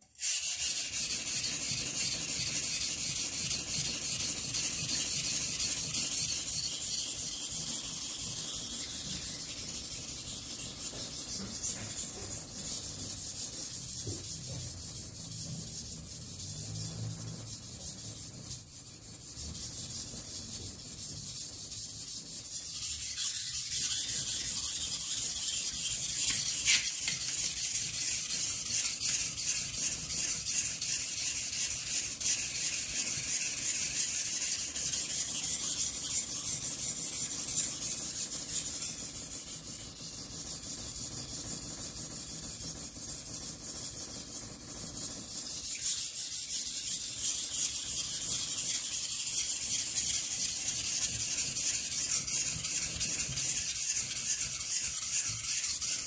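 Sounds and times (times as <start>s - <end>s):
knife scraping on whetstone: 0.2s - 18.6s, 21.0s - 40.4s, 45.2s - 56.0s.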